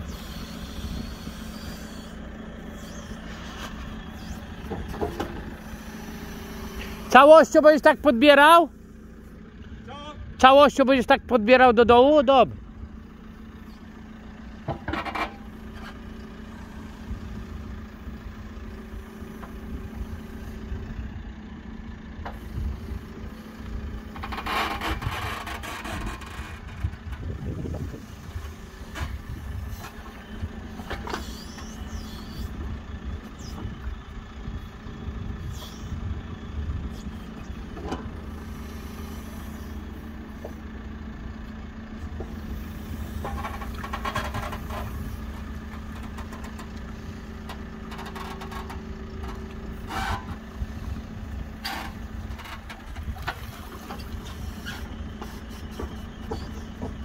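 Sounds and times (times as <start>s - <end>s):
diesel engine running: 0.0s - 57.0s
digging and hydraulic noise: 0.0s - 57.0s.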